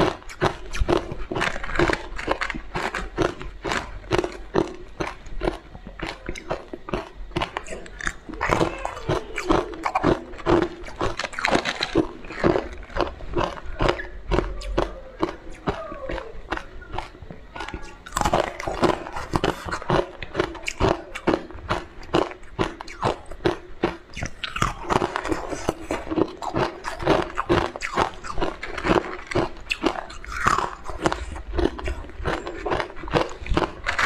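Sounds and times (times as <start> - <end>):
crunching ice in mouth: 0.0 - 34.0.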